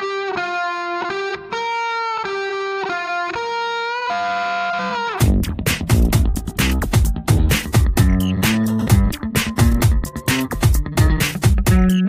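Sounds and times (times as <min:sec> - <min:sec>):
melody of held bending notes: 0:00.0 - 0:12.0.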